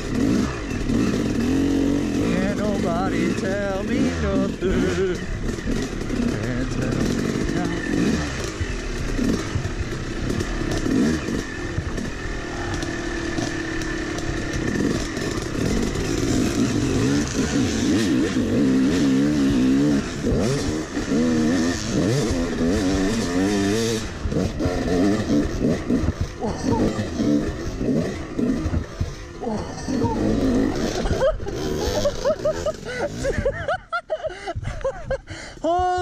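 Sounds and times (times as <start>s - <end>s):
bike rattles and scrapes: 0.0s - 33.6s
dirt bike engine revving: 0.0s - 34.1s.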